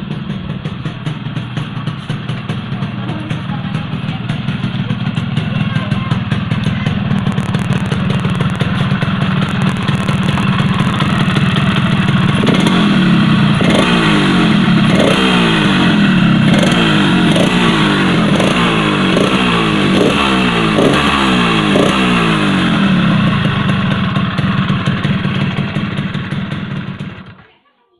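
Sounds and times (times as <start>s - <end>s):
two-stroke engine revving: 0.0s - 27.4s.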